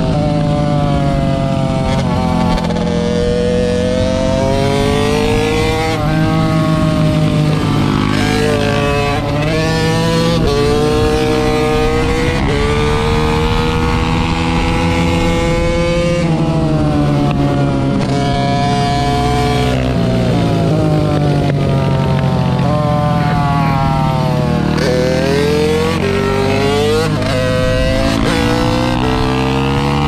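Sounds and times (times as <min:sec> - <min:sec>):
mini-motorcycle engine revving: 0:00.0 - 0:30.0.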